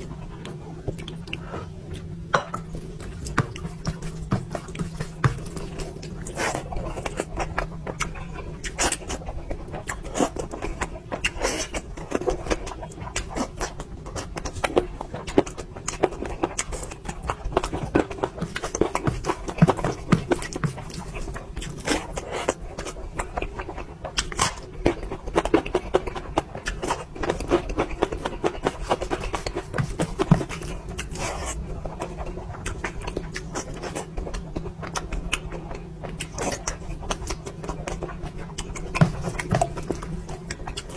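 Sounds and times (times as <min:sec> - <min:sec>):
wet chewing and lip smacking: 0:00.3 - 0:40.9.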